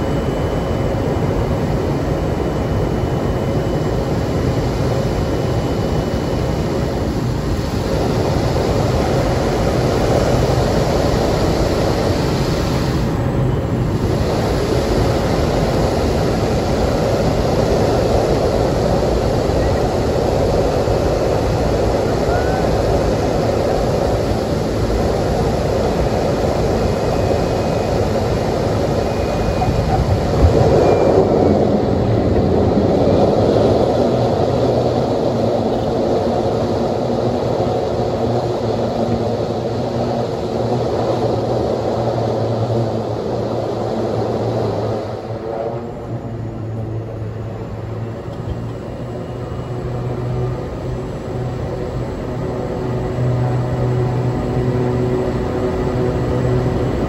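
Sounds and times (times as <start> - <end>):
rushing noise: 0.0 - 48.1
propeller aircraft engine drone: 0.0 - 57.0.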